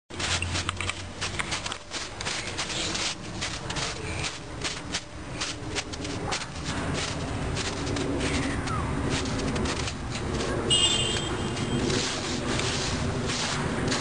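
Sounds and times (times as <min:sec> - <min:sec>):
footsteps crunching in snow: 0:00.1 - 0:14.0.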